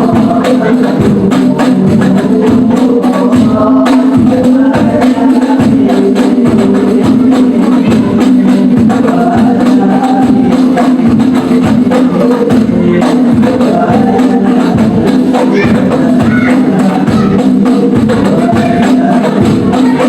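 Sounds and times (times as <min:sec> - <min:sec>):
frame drums beating fast rhythm: 0:00.0 - 0:20.0
voices singing a melody: 0:00.0 - 0:20.0.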